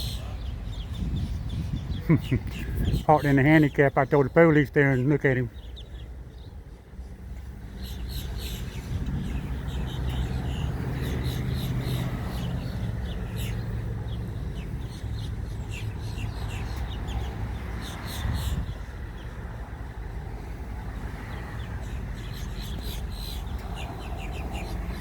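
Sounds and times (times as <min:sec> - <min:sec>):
birds chirping: 0:00.0 - 0:20.2, 0:21.0 - 0:25.0.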